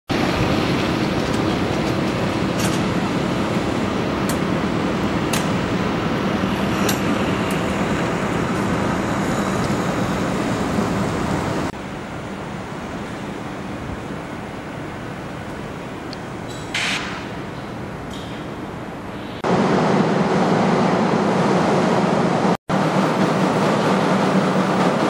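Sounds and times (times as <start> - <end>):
road traffic noise: 0.1 - 25.0.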